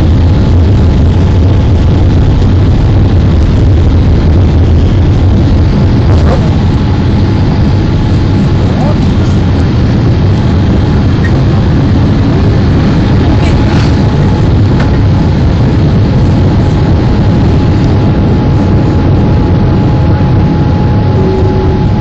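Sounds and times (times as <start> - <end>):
aircraft cabin engine rumble: 0.0 - 22.0
thin steady whine: 0.0 - 22.0.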